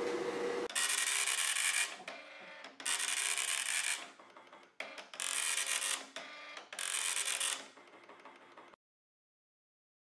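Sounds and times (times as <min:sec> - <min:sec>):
dot-matrix printer buzzing: 0:00.6 - 0:08.8.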